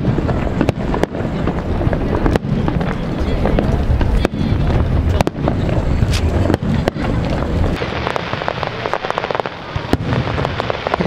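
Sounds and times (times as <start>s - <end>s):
low rumble: 0.0s - 8.9s
fireworks bangs: 0.0s - 11.0s
fireworks crackling: 0.0s - 11.0s.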